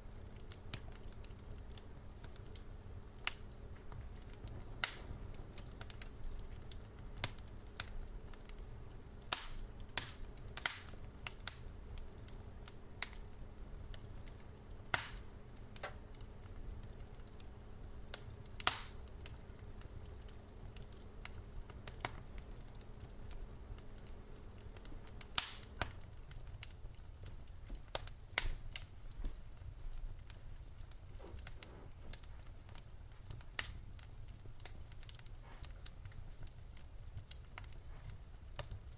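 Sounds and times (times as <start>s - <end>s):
faint steady hum: 0.0s - 38.9s
low rumble of flames: 0.0s - 38.9s
wood fire crackling and popping: 0.0s - 38.9s.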